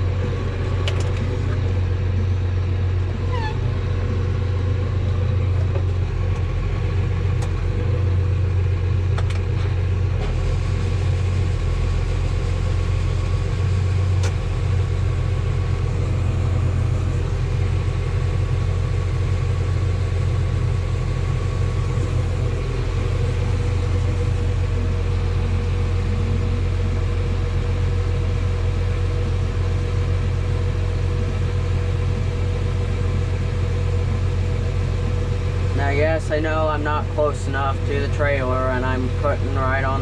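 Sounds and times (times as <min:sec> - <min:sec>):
tractor engine droning: 0:00.0 - 0:40.0.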